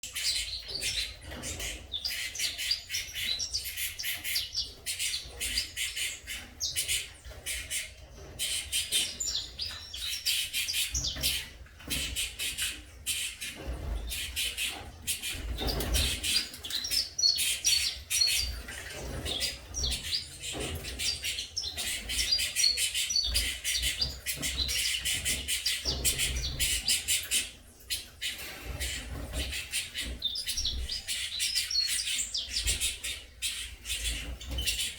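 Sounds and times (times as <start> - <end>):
chicks chirping: 0.0 - 34.9.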